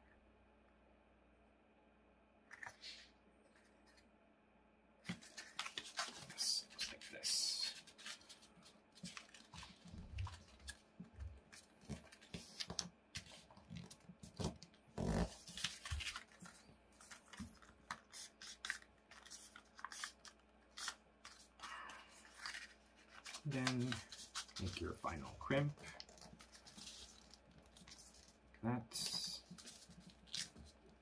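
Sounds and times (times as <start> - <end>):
paper crinkling and rustling: 5.0 - 28.4, 29.0 - 31.0.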